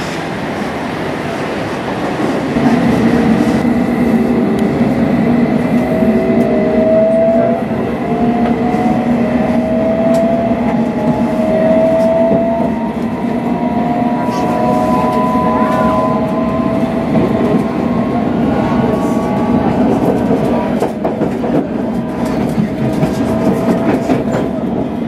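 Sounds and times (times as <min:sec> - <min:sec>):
train running rumble: 0:00.0 - 0:25.0
train traction whine rising: 0:02.4 - 0:24.9.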